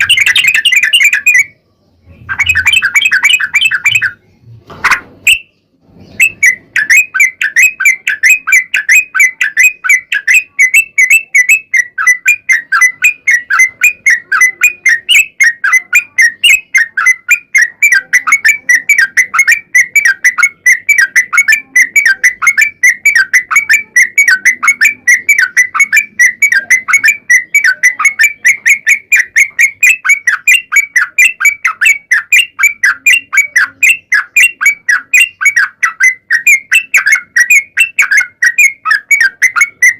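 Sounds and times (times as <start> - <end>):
bulbul rapid chirping: 0.0 - 39.9.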